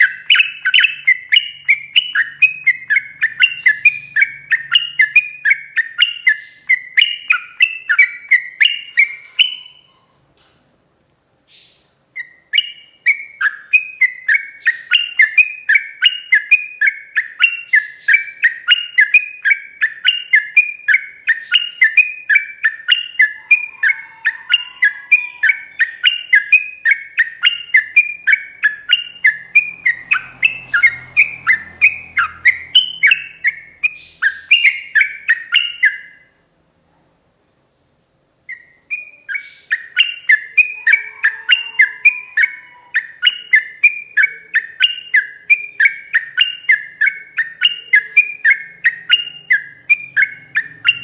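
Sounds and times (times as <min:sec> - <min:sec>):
bird singing whistled notes: 0:00.0 - 0:10.0, 0:11.5 - 0:36.4, 0:38.4 - 0:51.0.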